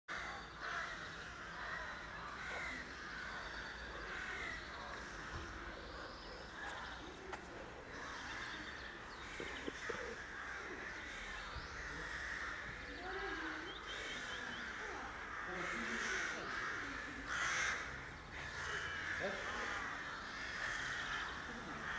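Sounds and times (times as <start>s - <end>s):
birds chirping: 0.1s - 21.9s.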